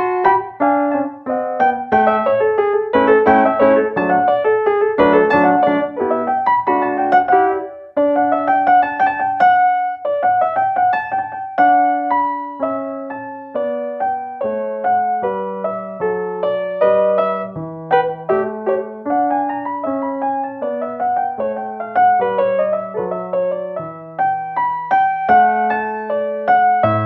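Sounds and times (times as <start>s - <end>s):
classical piano playing: 0.0s - 27.0s.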